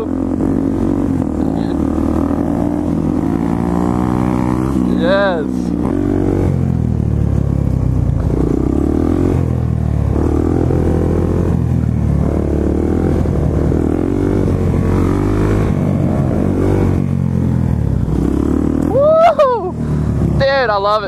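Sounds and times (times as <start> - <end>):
motorcycle engine riding: 0.0 - 21.0.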